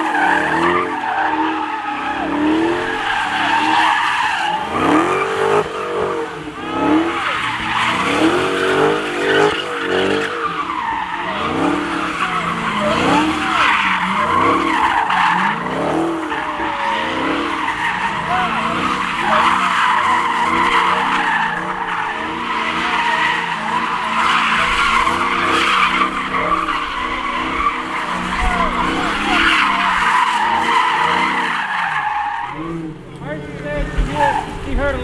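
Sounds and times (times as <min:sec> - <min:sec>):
tire squeal: 0:00.0 - 0:33.0, 0:33.8 - 0:35.0
car engine revving: 0:00.0 - 0:35.0.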